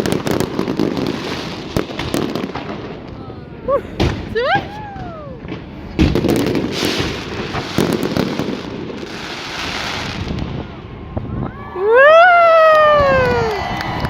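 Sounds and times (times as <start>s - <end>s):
fireworks bangs: 0.0s - 3.3s, 3.9s - 14.0s
fireworks crackling: 0.0s - 14.0s.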